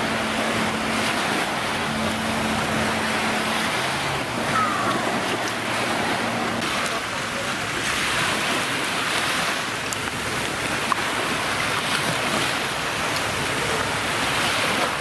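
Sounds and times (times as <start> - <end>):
jet ski engine running: 0.0 - 15.0
water rushing and splashing: 0.0 - 15.0.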